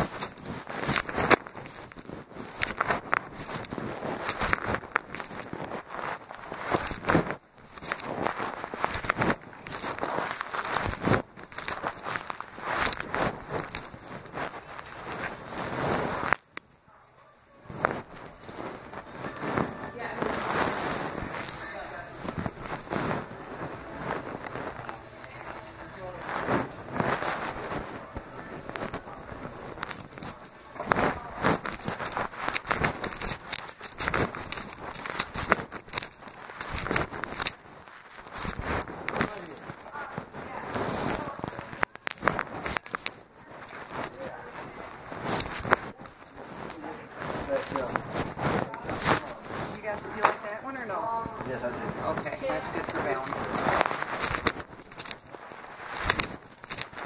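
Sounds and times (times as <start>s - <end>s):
microphone rubbing against fabric: 0.0s - 16.4s, 17.6s - 57.0s.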